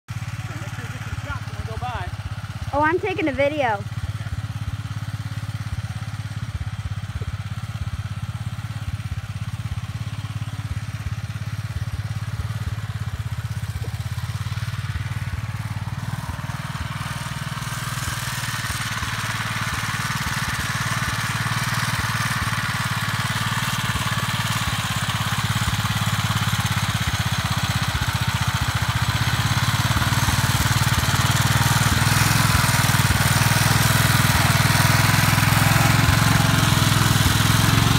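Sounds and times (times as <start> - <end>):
tractor engine running: 0.1 - 37.9.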